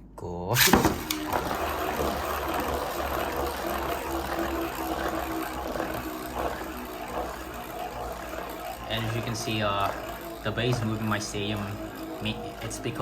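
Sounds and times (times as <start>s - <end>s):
spinning top whirring in plastic bowl: 0.6s - 13.0s.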